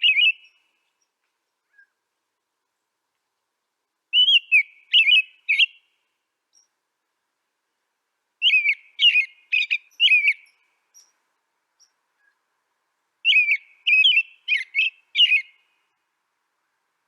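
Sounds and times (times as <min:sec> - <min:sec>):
songbird singing sweeping chirps: 0:00.0 - 0:02.2, 0:04.1 - 0:06.9, 0:07.7 - 0:17.0.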